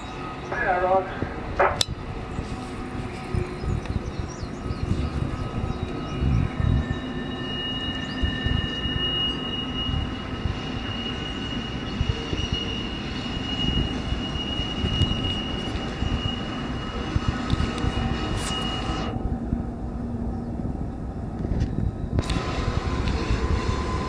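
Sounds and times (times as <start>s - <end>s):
train wheel squeal: 0.0s - 19.4s, 20.2s - 24.0s
low rumble of train: 0.0s - 24.0s.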